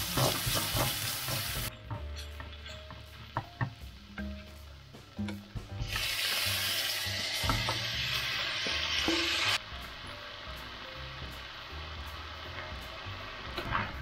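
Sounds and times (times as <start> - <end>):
chicken sizzling in frying pan: 0.0 - 1.7, 3.1 - 14.0.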